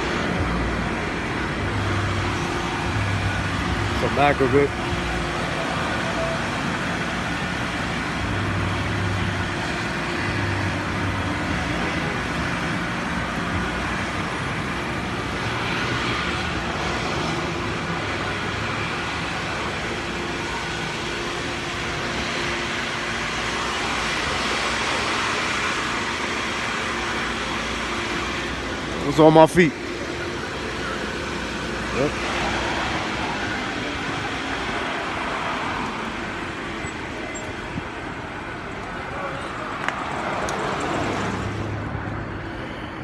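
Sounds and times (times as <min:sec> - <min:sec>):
vehicle engine hum: 0:00.0 - 0:43.0.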